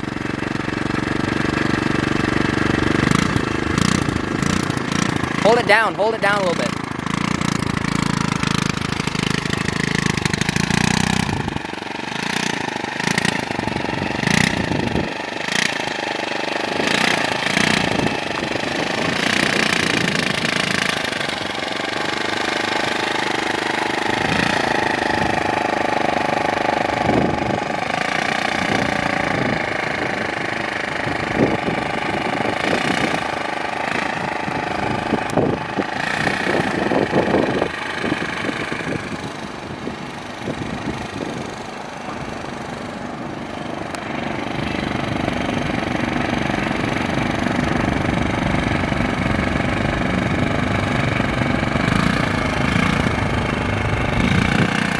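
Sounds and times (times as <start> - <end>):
moped engine running: 0.0 - 54.9.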